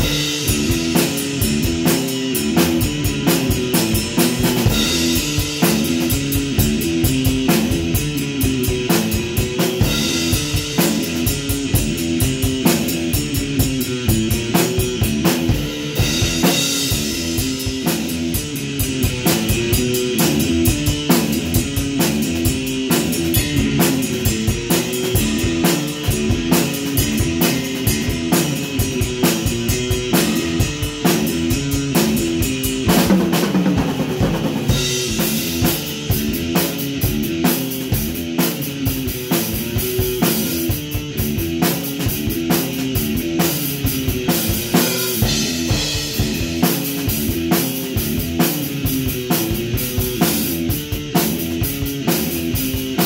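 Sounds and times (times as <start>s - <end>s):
electric guitar riff: 0.0s - 53.0s
rock drum beat: 0.0s - 53.0s.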